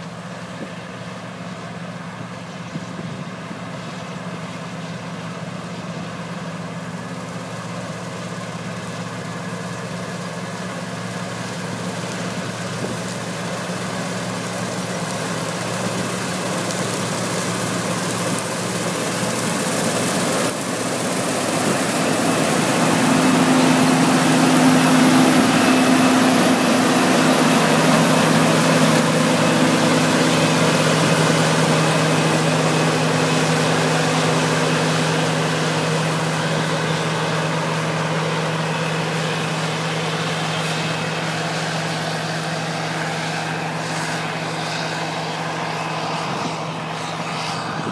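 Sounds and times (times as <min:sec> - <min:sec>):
combine harvester engine running: 0:00.0 - 0:47.9
rushing mechanical noise: 0:02.7 - 0:47.9.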